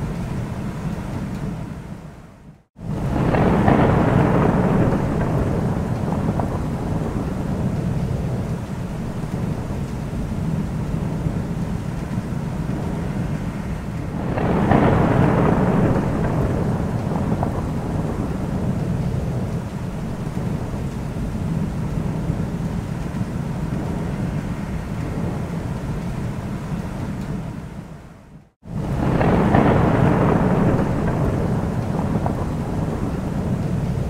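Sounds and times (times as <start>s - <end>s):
steady rain: 0.0s - 34.0s
thunder rolling: 2.8s - 34.0s.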